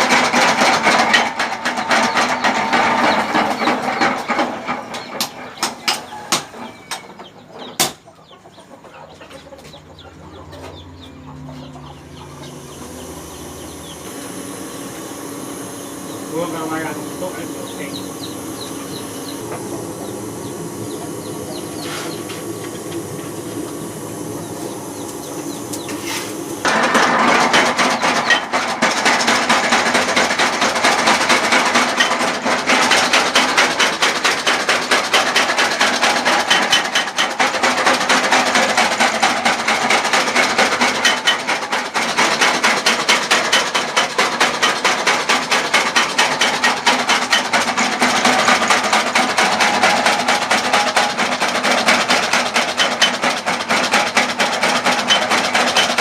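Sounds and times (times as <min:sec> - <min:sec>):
power hammer machine hum: 0:00.0 - 0:08.6, 0:09.2 - 0:56.0.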